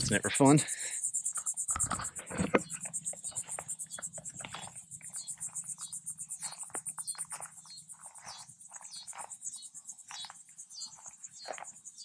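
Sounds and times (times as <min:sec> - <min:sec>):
cicadas buzzing: 0:00.0 - 0:12.0
footsteps through dry grass: 0:02.3 - 0:12.0.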